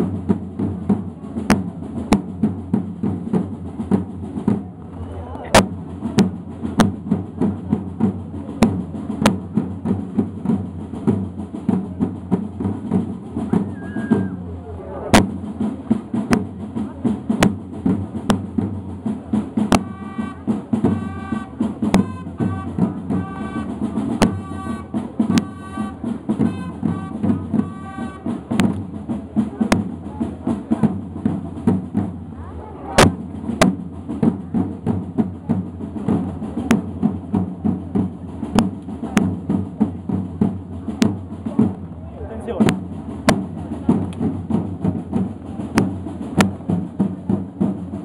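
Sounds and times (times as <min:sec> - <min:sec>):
snare drums marching rhythm: 0:00.0 - 0:48.0.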